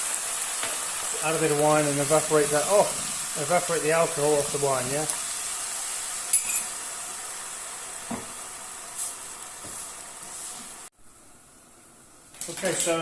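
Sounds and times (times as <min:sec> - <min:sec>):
wine sizzling in a hot pan: 0:00.0 - 0:13.0.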